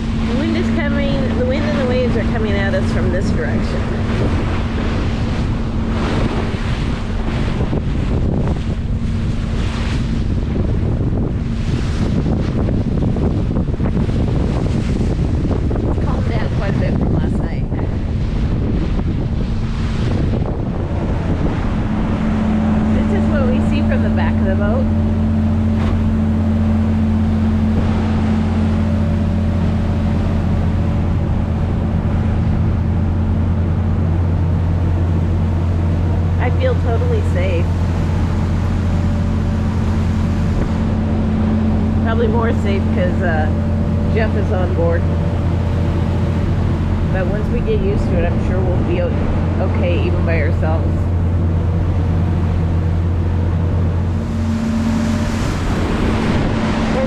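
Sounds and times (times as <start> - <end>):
boat diesel engine drone: 0.0 - 57.0
ocean waves rushing: 0.0 - 57.0
steady low hum: 0.0 - 57.0
wind buffeting microphone: 0.0 - 57.0.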